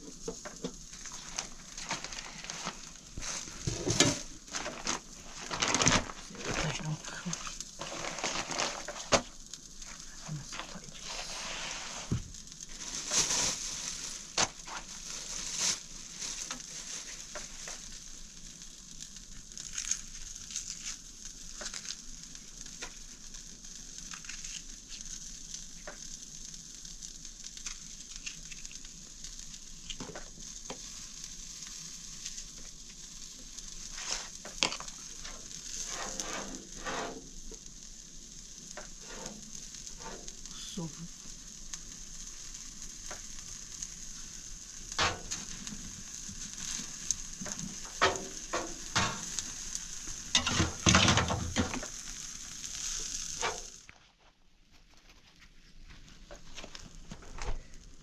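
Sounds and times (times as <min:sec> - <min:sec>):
food sizzling in a pan: 0:00.0 - 0:53.9, 0:55.4 - 0:58.0.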